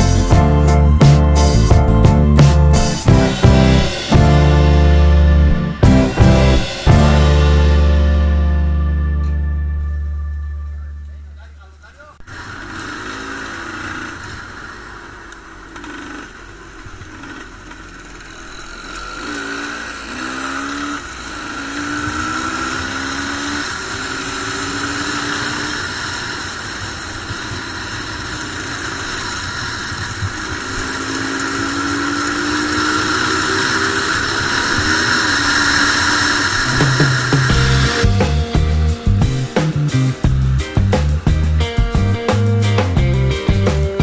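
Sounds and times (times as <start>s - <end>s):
two-stroke motorcycle revving: 0.0s - 10.4s, 12.2s - 44.0s.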